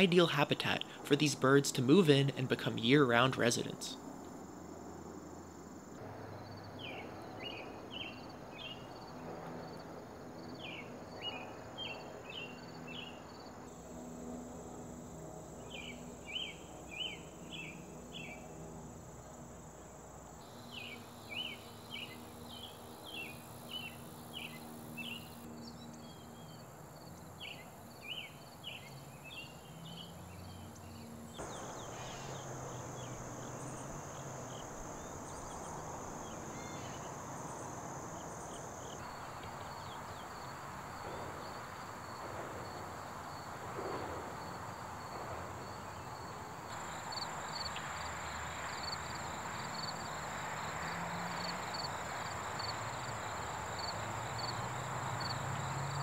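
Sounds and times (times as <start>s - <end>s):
insects trilling: 0.0s - 56.0s
quick insect chirps: 10.4s - 56.0s.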